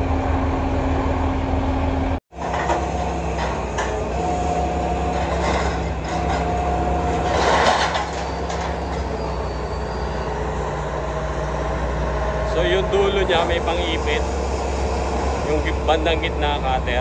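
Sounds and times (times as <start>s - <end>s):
excavator diesel engine running: 0.0s - 17.0s
high hydraulic whine: 0.0s - 17.0s.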